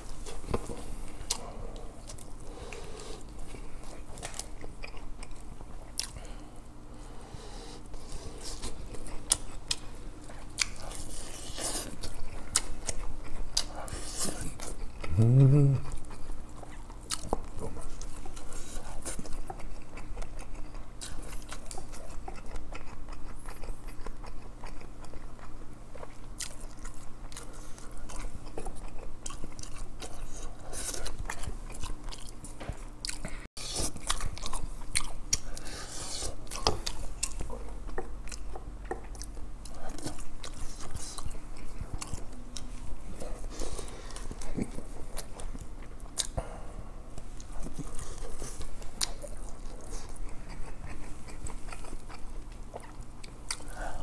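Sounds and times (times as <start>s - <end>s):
chewing and lip-smacking: 0.1s - 6.4s, 8.0s - 46.4s, 47.1s - 54.0s.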